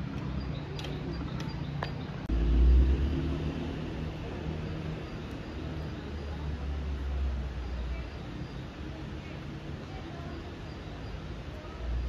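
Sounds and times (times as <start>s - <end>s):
faint outdoor hiss: 2.3s - 12.0s.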